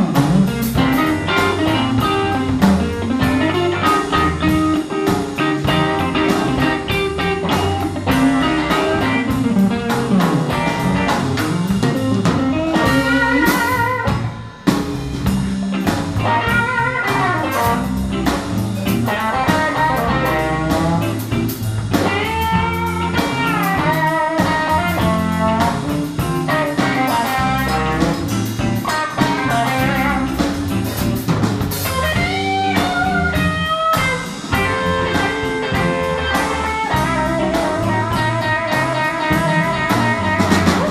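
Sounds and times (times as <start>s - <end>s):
electric guitar solo: 0.0s - 14.6s, 15.8s - 30.8s, 31.8s - 40.9s
drum kit: 0.0s - 40.9s
rhythm guitar: 0.0s - 40.9s.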